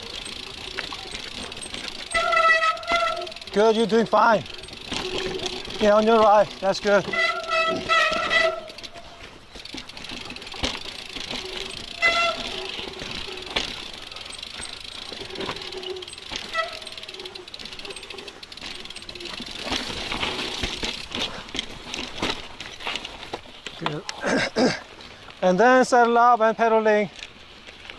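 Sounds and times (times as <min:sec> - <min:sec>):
bike knocking and rattling: 0:00.0 - 0:27.9
bike tyres on rock: 0:00.0 - 0:27.9.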